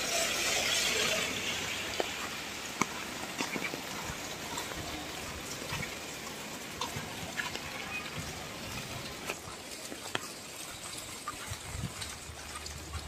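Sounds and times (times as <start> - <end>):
steady rain: 0.0 - 13.0
drips and light taps: 0.4 - 13.0.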